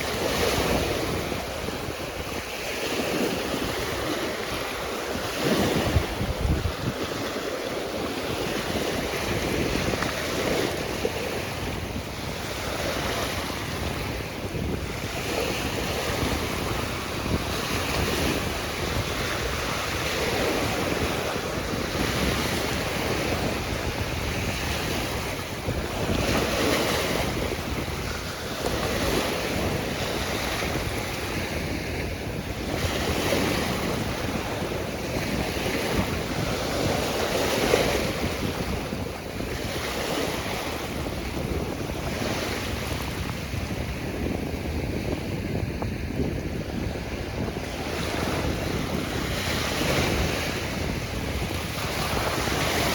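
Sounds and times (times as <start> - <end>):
sea waves washing: 0.0 - 52.9
wind on microphone: 0.0 - 52.9.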